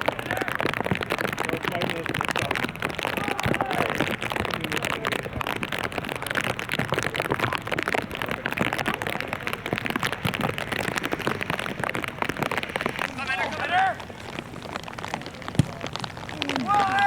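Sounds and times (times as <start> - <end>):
heavy rain patter: 0.0 - 17.0.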